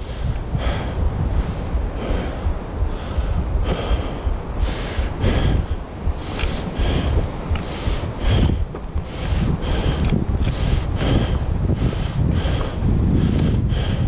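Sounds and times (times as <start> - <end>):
person breathing hard: 0.0 - 14.0
wind rumble on microphone: 0.0 - 14.0.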